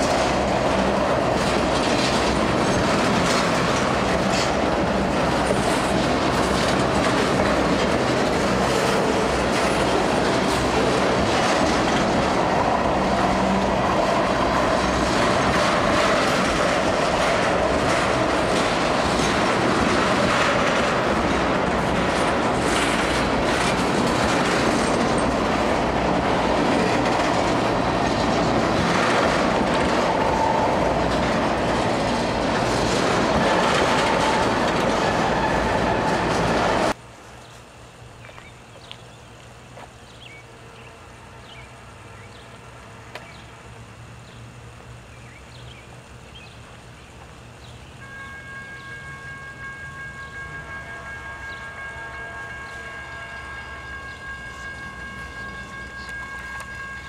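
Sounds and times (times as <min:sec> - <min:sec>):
wheels clacking over rail joints: 0:00.0 - 0:37.0, 0:48.0 - 0:57.0
rumble of train wheels: 0:00.0 - 0:57.0.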